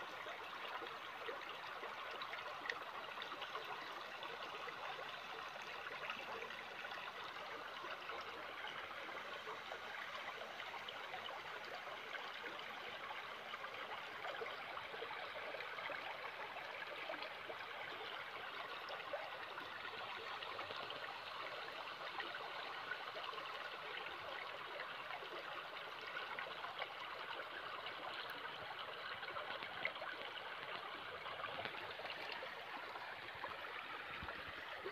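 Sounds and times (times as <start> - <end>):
stream running over pebbles: 0.0 - 34.9.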